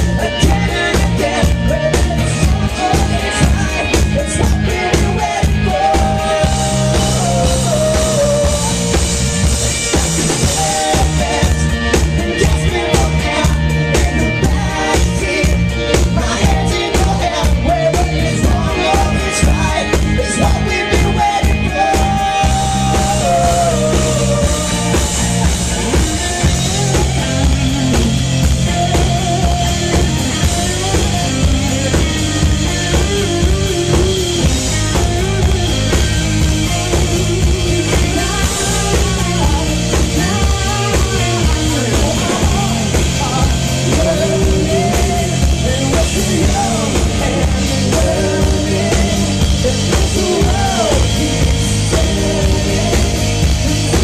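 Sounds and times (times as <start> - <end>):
drum kit beat: 0.0 - 54.0
electric guitars: 0.0 - 54.0
melodic lead line: 0.0 - 54.0.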